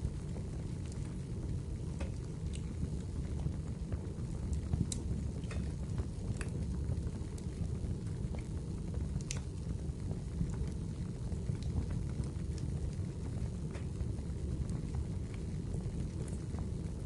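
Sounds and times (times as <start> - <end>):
fireplace fire crackling: 0.0 - 17.0
low rumble of burning: 0.0 - 17.0.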